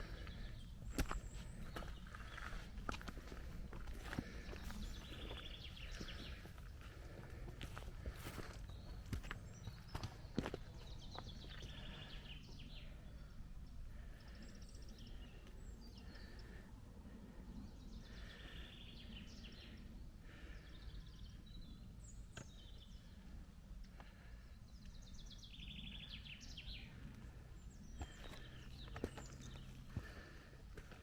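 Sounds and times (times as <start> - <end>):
songbirds trilling and chirping: 0.0 - 31.0.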